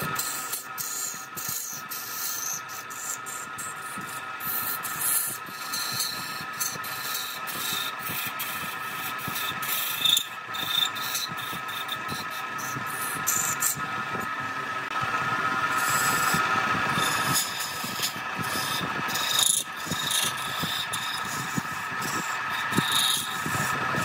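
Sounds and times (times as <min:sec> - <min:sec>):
tool scraping spinning wood: 0:00.0 - 0:24.0
wood lathe whine: 0:00.0 - 0:24.0.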